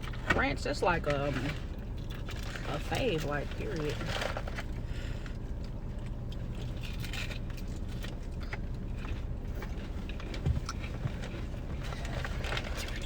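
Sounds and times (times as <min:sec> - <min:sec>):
car cabin engine rumble: 0:00.0 - 0:13.0
chewing and handling food: 0:00.0 - 0:13.0.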